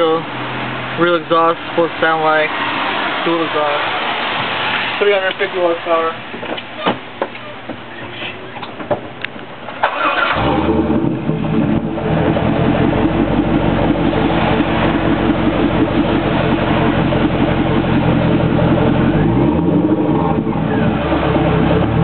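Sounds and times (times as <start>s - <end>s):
car engine idling and revving: 0.0s - 7.8s, 9.1s - 22.0s.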